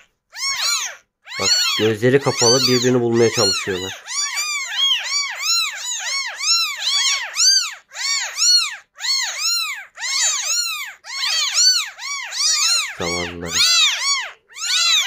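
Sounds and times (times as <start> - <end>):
kittens mewing: 0.0 - 15.0.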